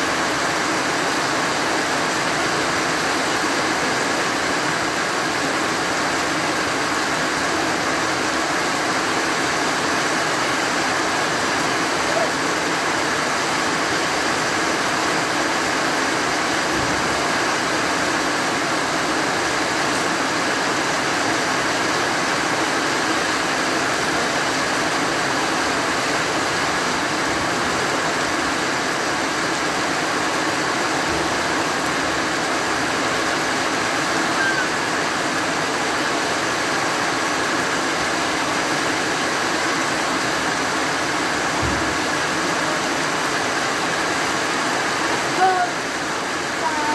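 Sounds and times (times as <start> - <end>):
heavy rain on trees and grass: 0.0 - 46.9.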